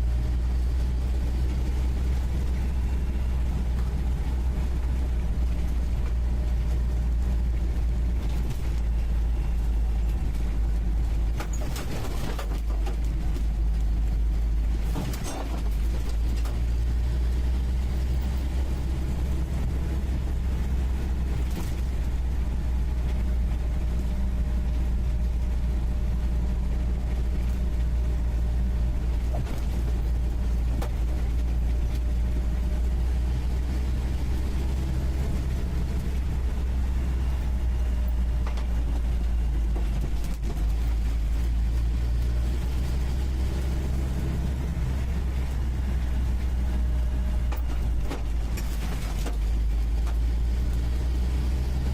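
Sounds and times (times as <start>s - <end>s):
car engine droning inside cabin: 0.0s - 51.9s.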